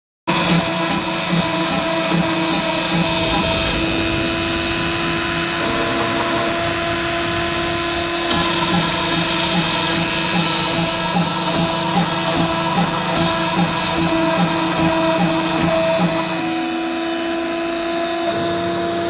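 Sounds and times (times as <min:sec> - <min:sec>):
regular pulsing: 0:00.3 - 0:18.0
rotary tool whine: 0:00.3 - 0:19.0.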